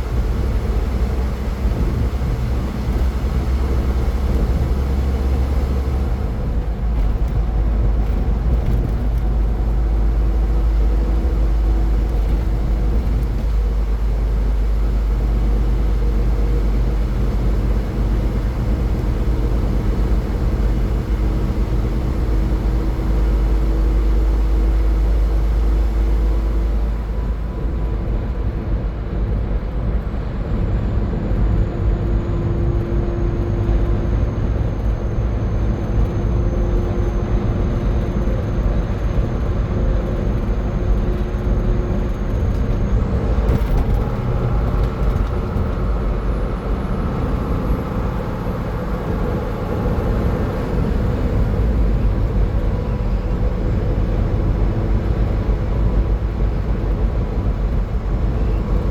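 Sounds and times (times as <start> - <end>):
car driving at highway speed: 0.0 - 58.9.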